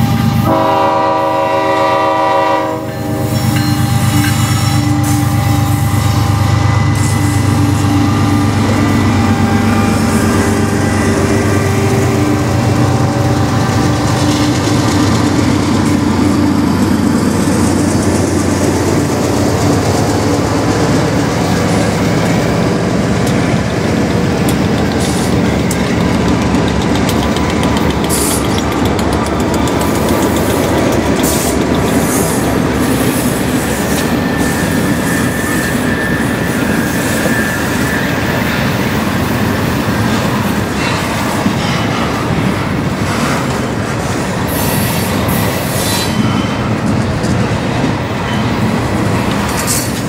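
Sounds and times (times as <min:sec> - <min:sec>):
diesel locomotive engines under load: 0:00.0 - 0:50.0
steel wheels rumbling on rails: 0:00.0 - 0:50.0.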